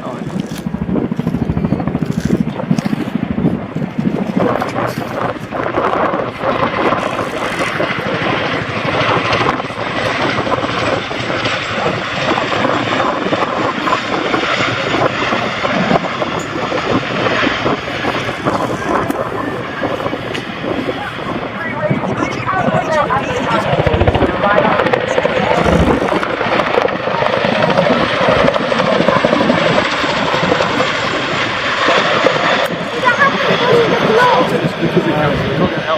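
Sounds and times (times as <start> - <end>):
helicopter rotors chopping: 0.0 - 35.9
turbine noise: 0.0 - 35.9.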